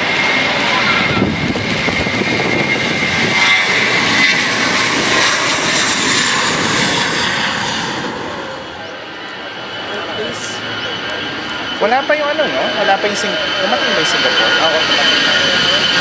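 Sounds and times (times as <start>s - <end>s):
airliner engines passing: 0.0s - 16.0s.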